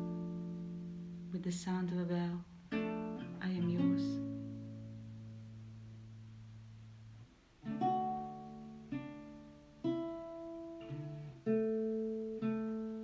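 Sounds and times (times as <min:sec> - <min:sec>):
acoustic guitar chords strummed: 0:00.0 - 0:13.0.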